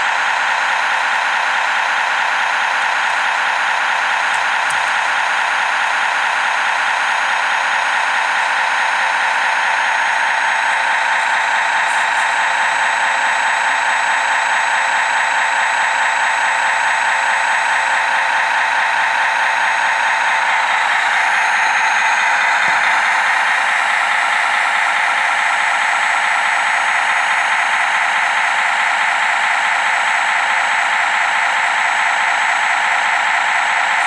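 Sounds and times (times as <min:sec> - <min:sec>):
hydraulic pump whirring whine: 0:00.0 - 0:34.0.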